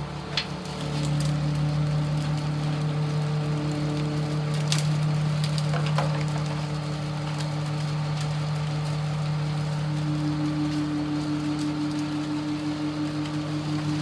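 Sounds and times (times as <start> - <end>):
diesel engine droning: 0.0 - 14.0
light clicks and crackles: 0.1 - 14.0.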